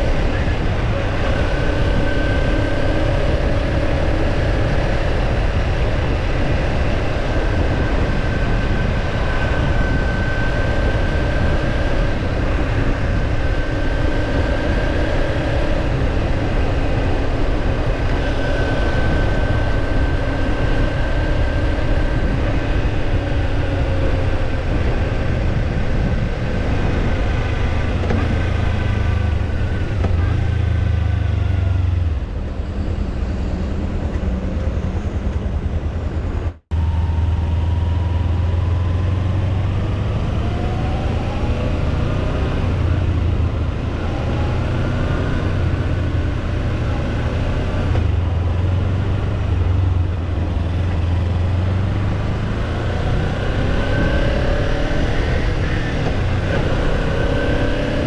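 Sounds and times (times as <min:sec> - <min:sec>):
motorcycle engine cruising: 0:00.0 - 0:58.0
wind rumble on microphone: 0:00.0 - 0:58.0.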